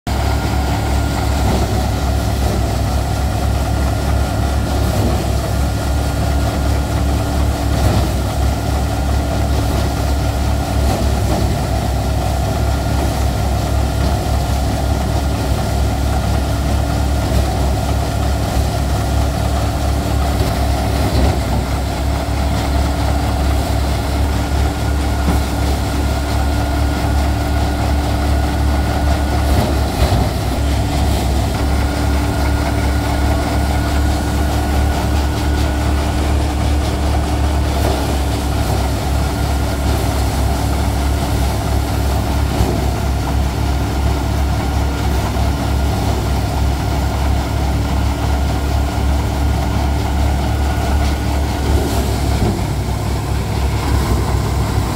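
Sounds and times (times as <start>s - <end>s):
tractor engine deep drone: 0.1s - 54.9s.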